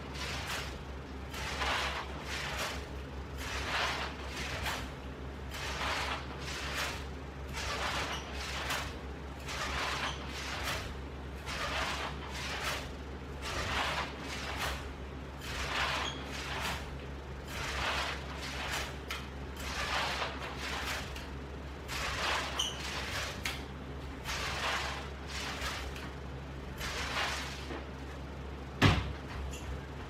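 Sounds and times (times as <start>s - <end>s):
ab roller swishing: 0.0s - 28.0s.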